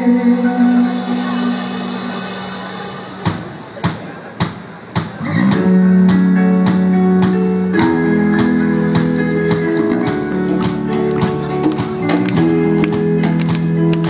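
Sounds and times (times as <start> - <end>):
guitar chords: 0.0 - 3.6, 5.3 - 14.0.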